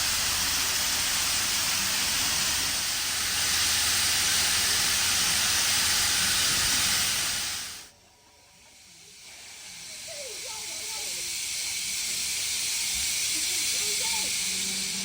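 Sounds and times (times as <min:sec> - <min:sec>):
steam locomotive hissing steam: 0:00.0 - 0:15.0.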